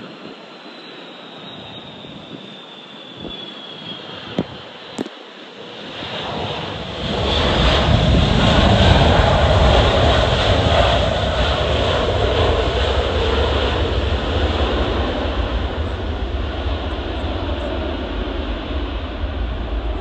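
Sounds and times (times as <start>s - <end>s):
jet airliner engines passing: 0.0s - 20.0s.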